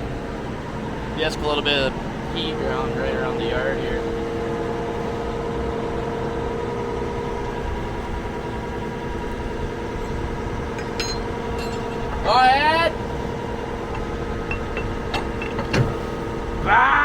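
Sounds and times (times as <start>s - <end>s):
tractor engine idling: 0.0s - 16.8s.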